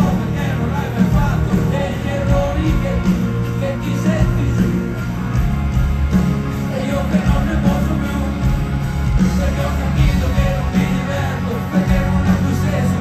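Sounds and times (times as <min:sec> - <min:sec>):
live rock band with singing: 0:00.0 - 0:13.0.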